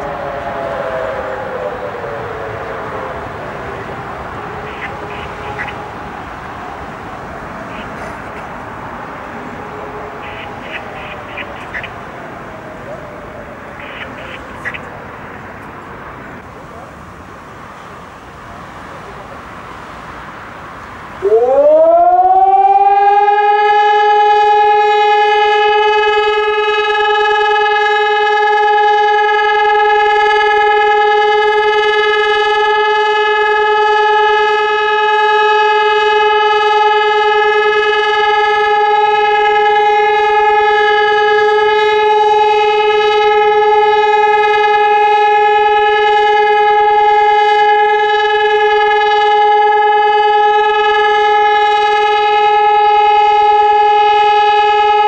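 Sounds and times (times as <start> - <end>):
siren steady tone: 0.0 - 16.8, 19.6 - 55.0.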